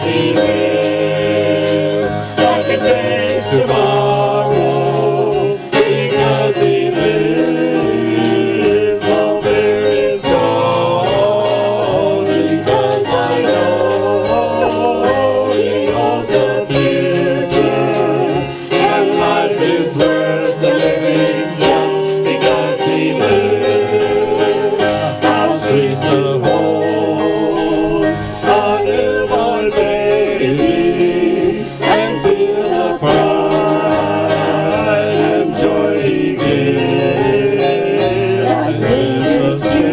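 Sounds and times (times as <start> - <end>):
instrumental accompaniment: 0.0 - 39.9
voices singing worship song: 0.0 - 39.9.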